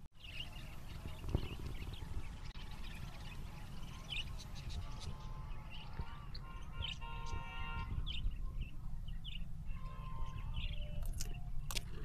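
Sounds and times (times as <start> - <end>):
budgerigars chirping: 0.2 - 11.7.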